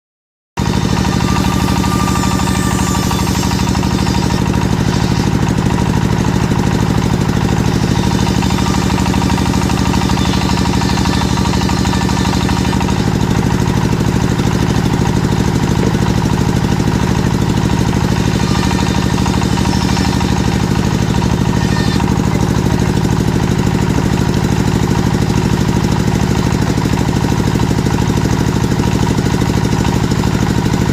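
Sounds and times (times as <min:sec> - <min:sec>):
saw machine engine running: 0:00.6 - 0:30.9.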